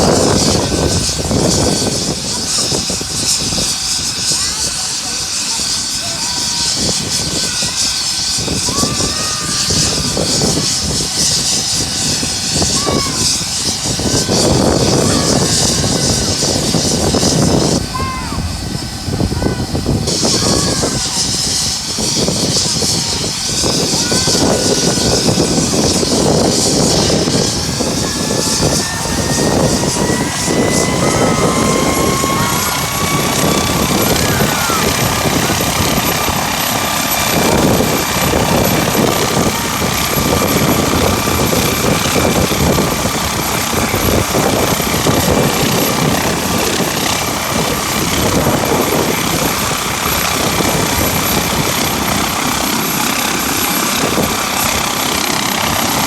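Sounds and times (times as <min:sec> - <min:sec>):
helicopter rotor noise: 0:00.0 - 0:56.0
helicopter turbine whine: 0:00.0 - 0:56.0
wind buffeting on microphone: 0:00.0 - 0:56.0.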